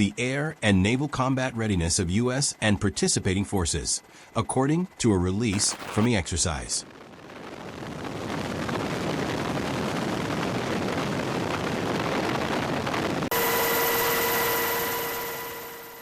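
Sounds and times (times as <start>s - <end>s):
turbine whine: 0.0s - 16.0s.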